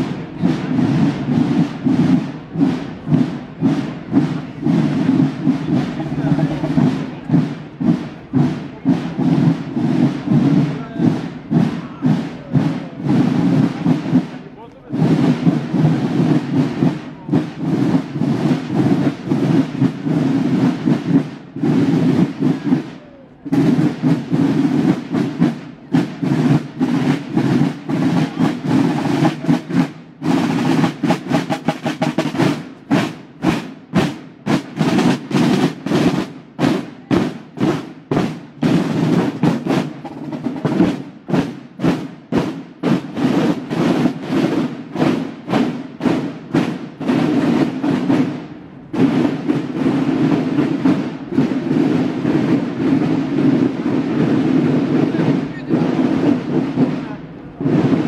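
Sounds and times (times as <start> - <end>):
snare drums playing rolls: 0.0 - 58.0.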